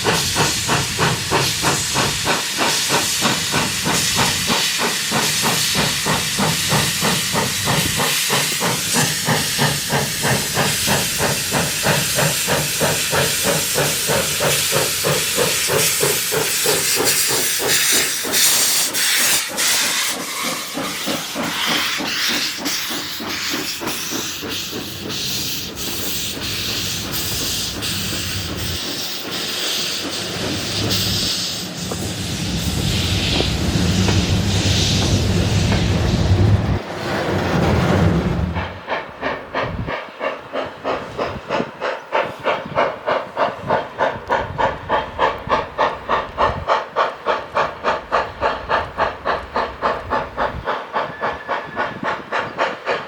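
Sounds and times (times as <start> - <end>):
steam locomotive exhaust chuffing: 0.0 - 53.0.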